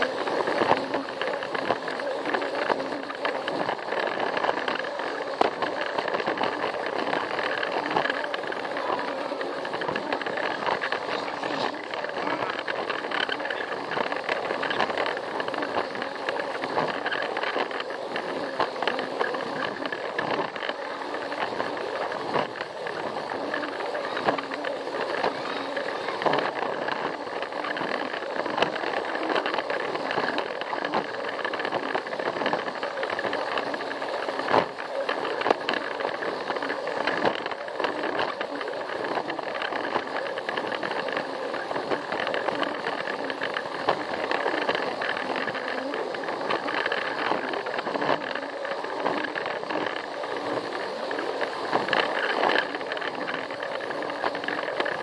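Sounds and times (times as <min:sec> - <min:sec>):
toy train motor whirring: 0:00.0 - 0:55.0
wheels rattling on plastic track: 0:00.0 - 0:55.0.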